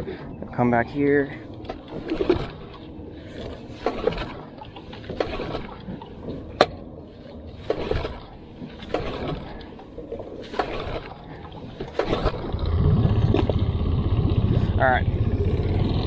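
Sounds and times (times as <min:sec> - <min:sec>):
outboard engine pull-start whirr: 0:01.5 - 0:16.0.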